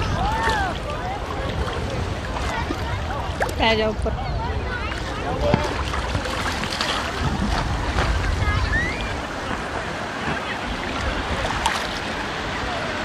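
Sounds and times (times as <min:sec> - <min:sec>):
small waves lapping: 0:00.0 - 0:13.0
wind rumbling on microphone: 0:00.0 - 0:13.0.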